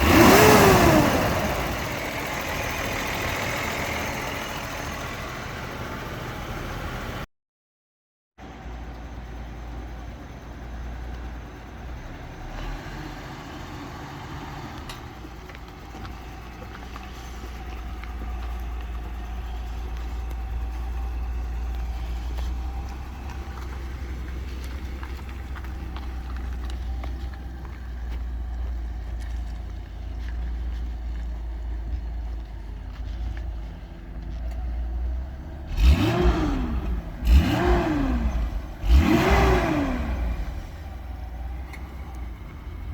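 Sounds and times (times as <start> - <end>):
car engine rumbling and revving: 0.0 - 7.3, 8.6 - 42.9.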